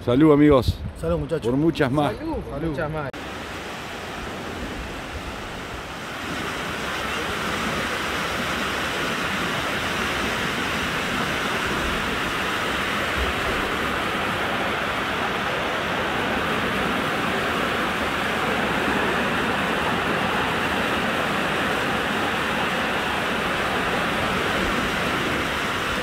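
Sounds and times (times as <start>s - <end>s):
wind on microphone: 0.5s - 1.3s, 3.9s - 26.0s
ocean surf breaking: 3.2s - 26.0s.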